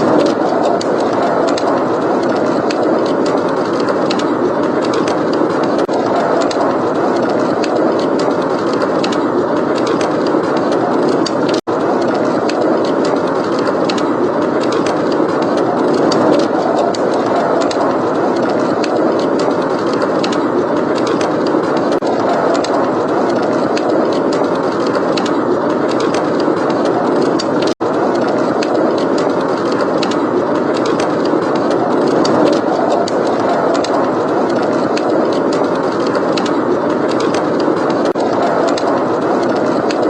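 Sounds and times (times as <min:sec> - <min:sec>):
blizzard wind: 0:00.0 - 0:40.0
wood fire crackling: 0:00.0 - 0:40.0.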